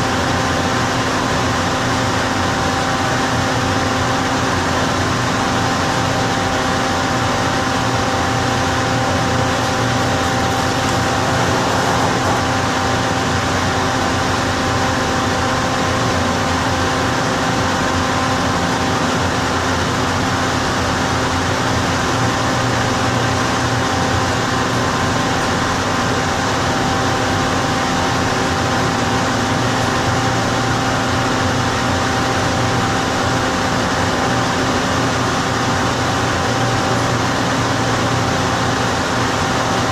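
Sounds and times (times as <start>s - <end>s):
ventilation fan whirring: 0.0s - 39.9s.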